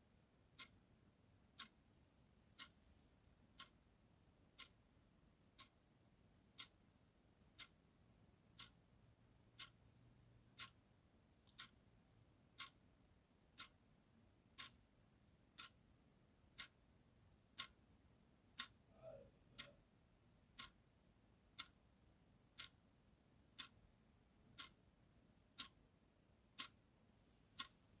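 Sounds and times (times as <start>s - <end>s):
clock ticking: 0.1s - 28.0s.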